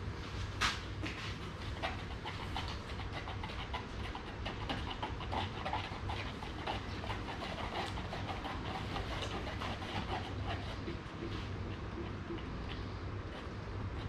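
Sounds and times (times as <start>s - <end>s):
sticks scraping plastic cups: 1.8s - 14.0s.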